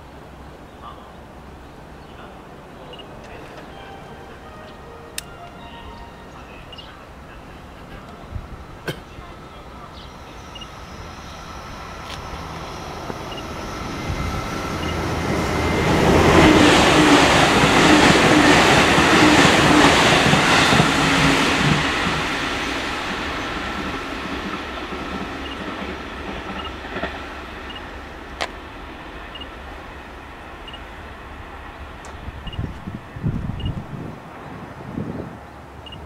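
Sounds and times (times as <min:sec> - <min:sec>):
electric train passing: 0:00.0 - 0:36.0.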